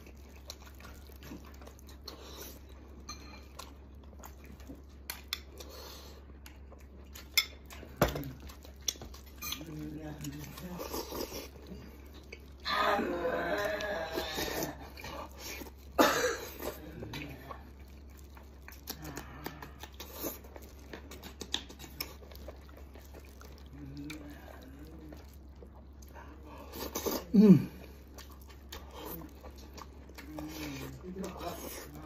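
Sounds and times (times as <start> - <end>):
man chewing and lip smacking: 0.0 - 12.6, 14.8 - 32.0.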